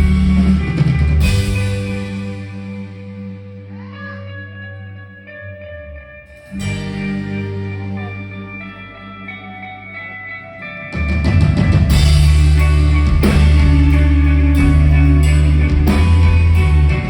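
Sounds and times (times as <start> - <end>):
rock band playing live: 0.0 - 17.0
sustained guitar notes: 0.0 - 17.0.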